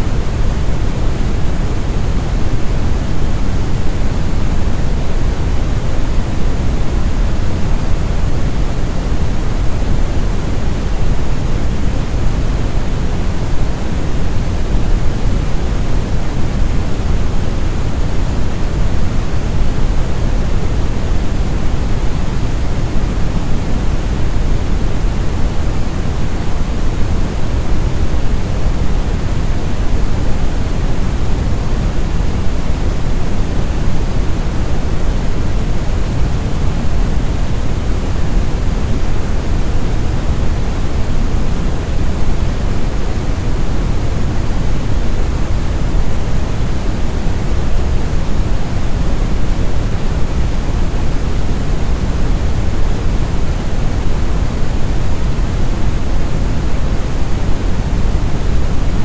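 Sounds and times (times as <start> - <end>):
brown noise rumbling hiss: 0.0 - 59.0.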